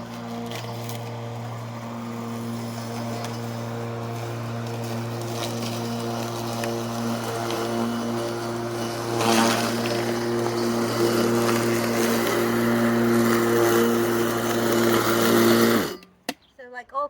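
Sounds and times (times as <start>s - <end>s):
electric lawnmower cutting grass: 0.0s - 16.2s.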